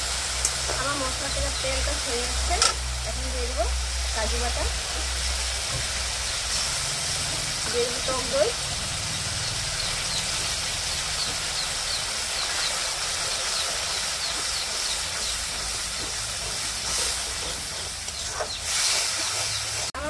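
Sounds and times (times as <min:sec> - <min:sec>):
paste sizzling and bubbling: 0:00.0 - 0:20.0.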